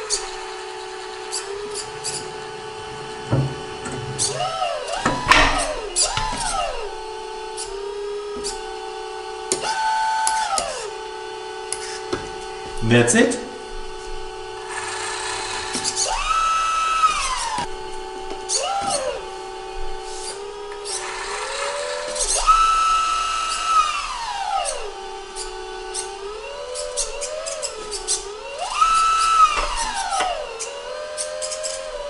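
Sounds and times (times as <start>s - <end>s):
electric hydraulic pump whining: 0.0s - 32.0s.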